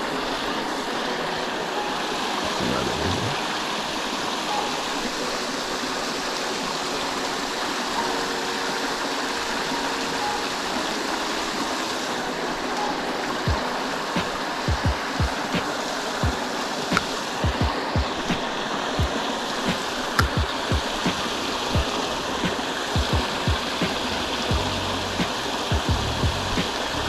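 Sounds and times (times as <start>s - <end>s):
river water running over rocks: 0.0s - 27.0s.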